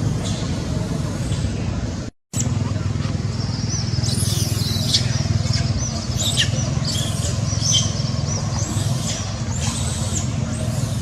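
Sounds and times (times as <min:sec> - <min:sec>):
low motor rumble: 0:00.0 - 0:11.0.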